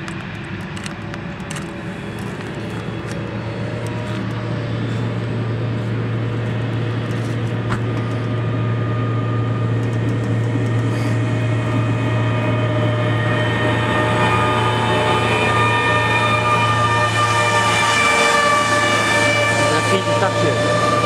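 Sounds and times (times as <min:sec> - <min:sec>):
high engine whine: 0:00.0 - 0:21.0
jet engines rumbling: 0:00.0 - 0:21.0.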